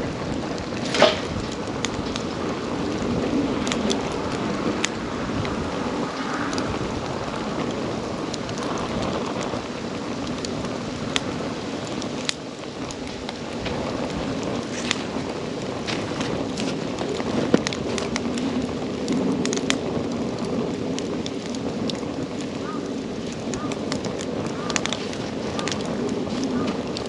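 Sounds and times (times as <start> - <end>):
campfire flame hissing: 0.0 - 27.0
fire crackling and popping: 0.0 - 27.0.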